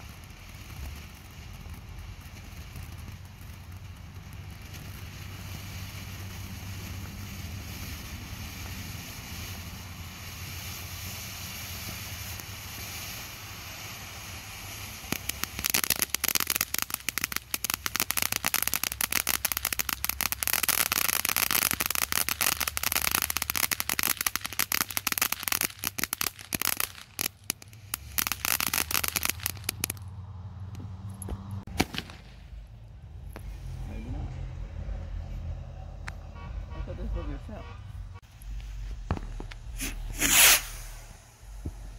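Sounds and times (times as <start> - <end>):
firework crackling and popping: 0.0 - 34.0, 38.2 - 41.9
firework hissing: 0.0 - 34.0, 38.2 - 41.9.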